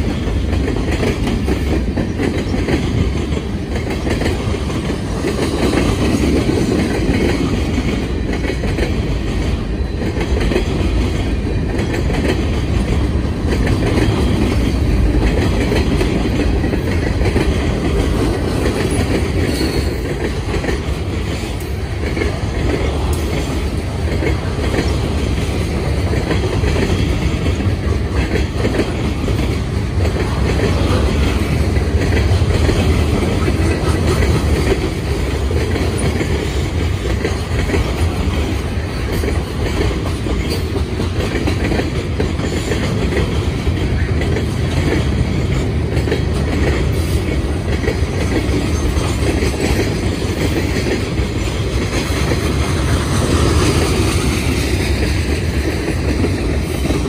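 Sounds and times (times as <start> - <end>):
freight train rolling past: 0.0 - 57.0
steel wheels rumbling on rails: 0.0 - 57.0.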